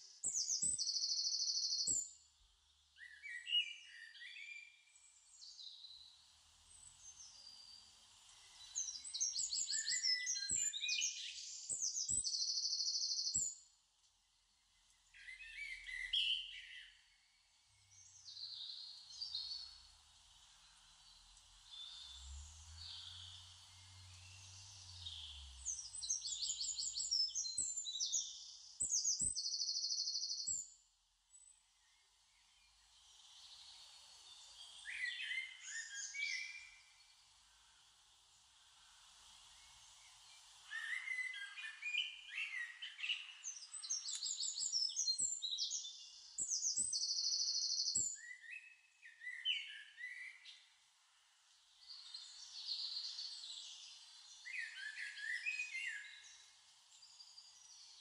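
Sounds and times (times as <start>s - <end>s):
birds chirping and trilling: 0.0s - 13.8s, 14.8s - 58.0s.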